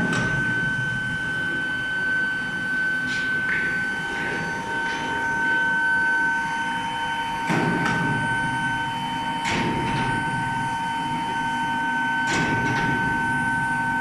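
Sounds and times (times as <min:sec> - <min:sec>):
furnace high whine: 0:00.0 - 0:14.0.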